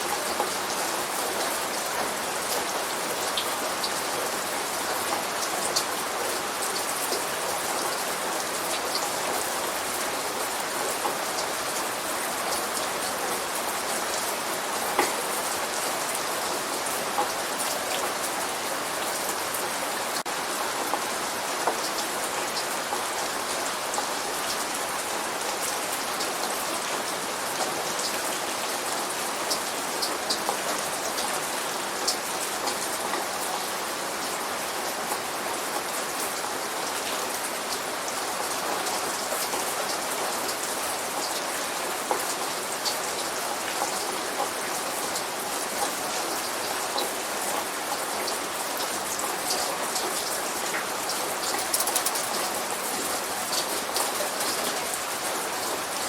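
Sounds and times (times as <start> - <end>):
light rain hiss: 0.0 - 56.0
raindrops ticking on a surface: 0.0 - 56.0.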